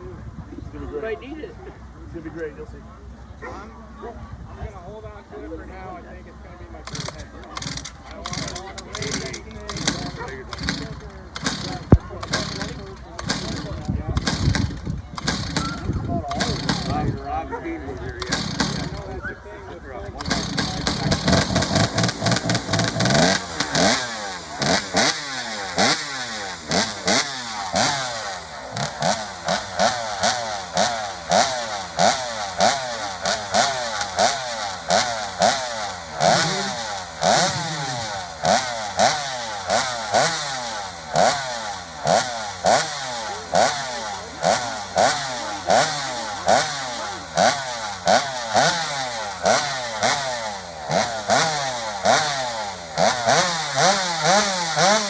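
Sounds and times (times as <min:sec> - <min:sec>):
chainsaw engine revving: 0:06.8 - 0:19.3, 0:20.0 - 0:55.0.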